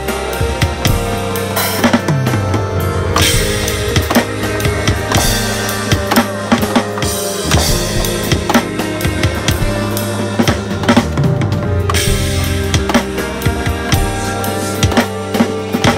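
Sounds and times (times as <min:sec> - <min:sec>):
bass and guitar recording: 0:00.0 - 0:15.9
electronic drum kit beat: 0:00.0 - 0:15.9.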